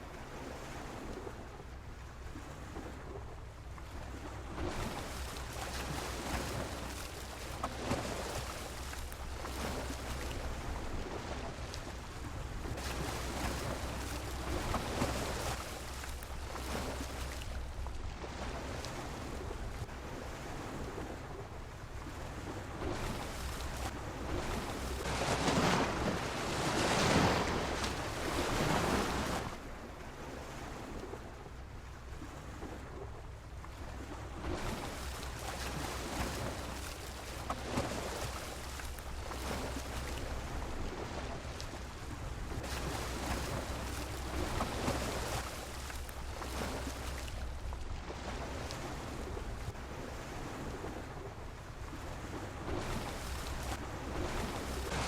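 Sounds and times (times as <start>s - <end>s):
sea waves against a pier: 0.0s - 55.0s
wind rumble on microphone: 0.0s - 55.0s.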